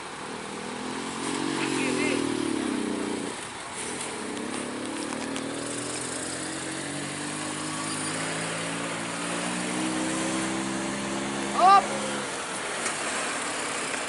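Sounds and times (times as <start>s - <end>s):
truck diesel engine under load: 0.0s - 14.0s.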